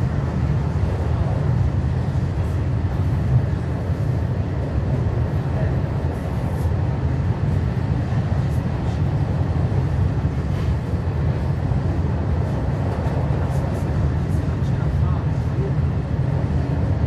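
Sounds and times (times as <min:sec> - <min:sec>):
train wheels on rails: 0:00.0 - 0:15.7.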